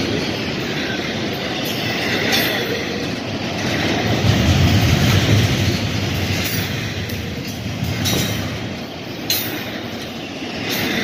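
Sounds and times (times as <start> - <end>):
train rumble: 0.0 - 11.0
wheels clicking over rail joints: 0.0 - 11.0.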